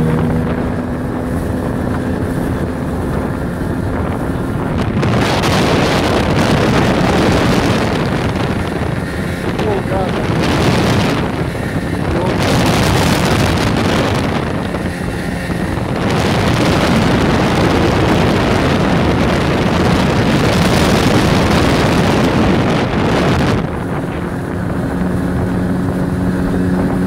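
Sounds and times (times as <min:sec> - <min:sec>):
outboard motor running: 0:00.0 - 0:27.0
wind rush on microphone: 0:00.0 - 0:27.0.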